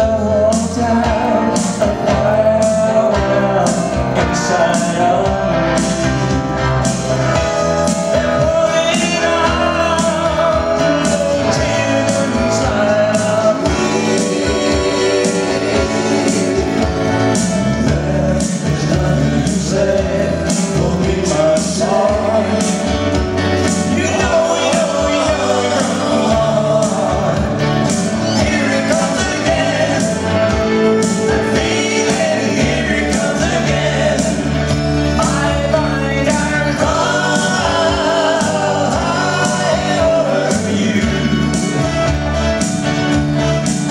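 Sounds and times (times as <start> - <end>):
men singing: 0.0 - 42.8
live band playing: 0.0 - 43.9.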